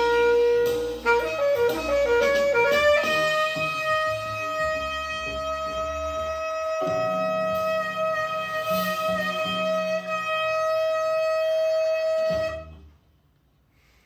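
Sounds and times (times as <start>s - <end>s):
saxophone long note: 0.0s - 12.8s
low musical accompaniment: 0.0s - 13.8s.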